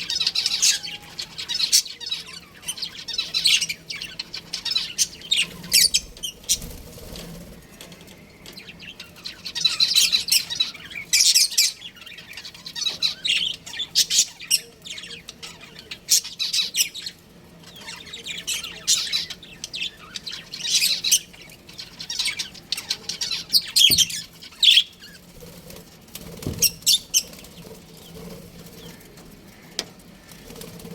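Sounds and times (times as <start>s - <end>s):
budgerigars chirping and squawking: 0.0s - 30.9s.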